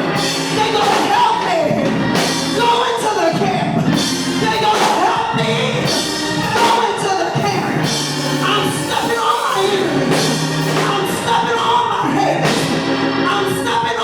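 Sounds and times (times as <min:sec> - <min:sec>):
church singing with band: 0:00.0 - 0:14.0
drums: 0:00.0 - 0:14.0.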